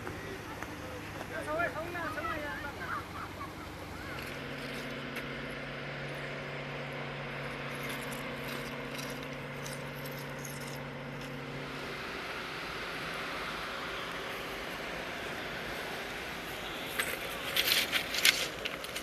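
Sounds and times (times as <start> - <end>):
engine hum: 0.0 - 19.0.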